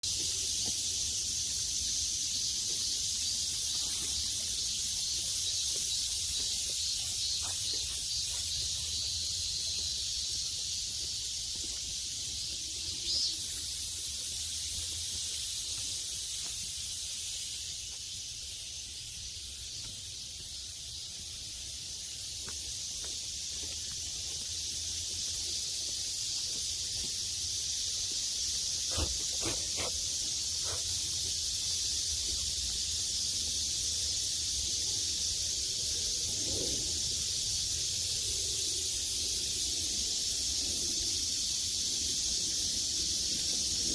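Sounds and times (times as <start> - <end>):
high-pitched outdoor hiss: 0.0 - 43.9.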